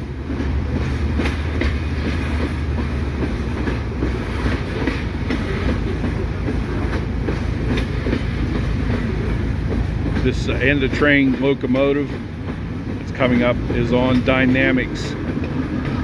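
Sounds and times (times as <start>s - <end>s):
freight train rumbling past: 0.0s - 16.0s
wheels knocking on rails: 0.0s - 16.0s.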